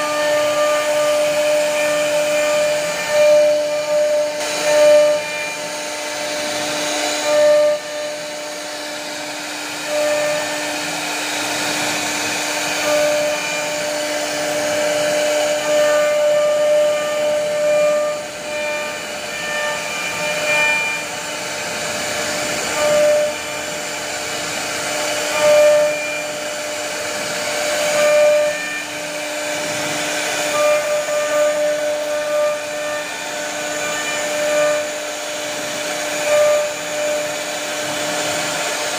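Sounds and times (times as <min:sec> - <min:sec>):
router spindle whining carving wood: 0:00.0 - 0:38.9.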